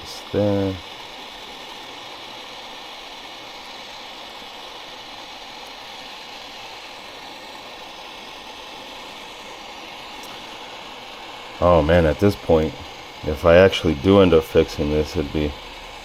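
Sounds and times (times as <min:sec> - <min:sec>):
heat gun blowing hot air: 0:00.0 - 0:16.0.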